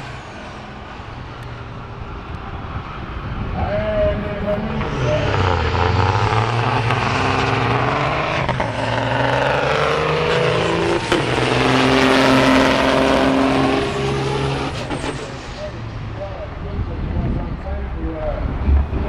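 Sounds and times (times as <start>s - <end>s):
diesel truck engines accelerating: 0.0s - 19.0s.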